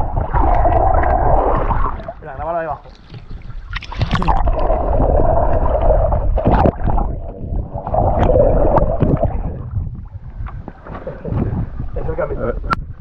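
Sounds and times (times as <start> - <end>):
water gurgling and splashing: 0.0 - 12.8
muffled rushing water: 0.0 - 13.0.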